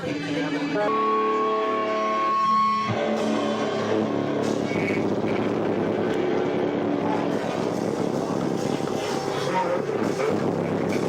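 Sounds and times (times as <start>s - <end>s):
distorted live rock band: 0.0s - 11.0s.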